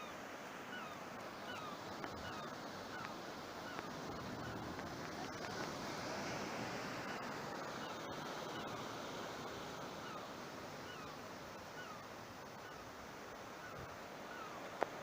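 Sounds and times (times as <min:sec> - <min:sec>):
sea surf washing onto beach: 0:01.1 - 0:15.0.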